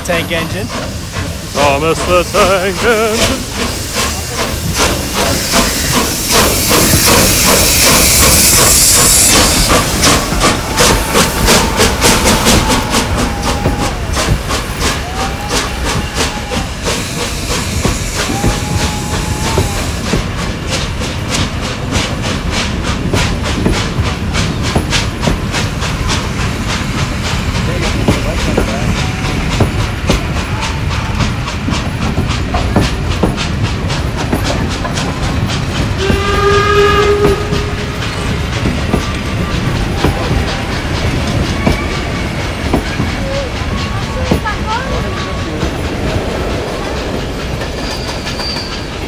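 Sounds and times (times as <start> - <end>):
carriages clickety-clack on rails: 0.0 - 49.0
locomotive exhaust chuffs: 0.0 - 49.0
steam hiss: 0.0 - 49.0.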